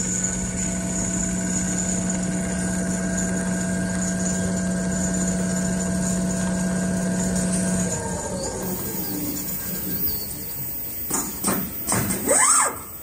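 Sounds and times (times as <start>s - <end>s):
sewing machine humming and whining: 0.0s - 13.0s.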